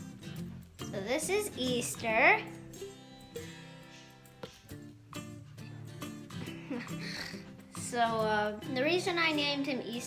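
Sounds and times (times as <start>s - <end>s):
strummed acoustic guitar chords: 0.0s - 10.0s.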